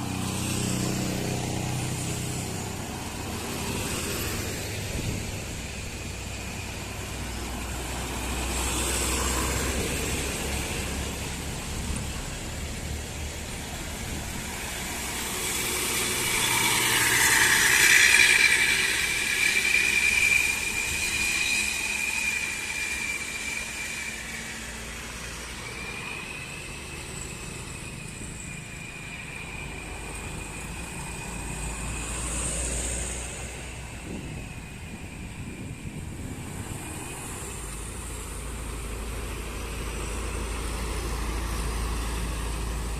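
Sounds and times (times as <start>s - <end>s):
large vehicle passing: 0.0s - 42.9s
steady high whine: 0.0s - 42.9s.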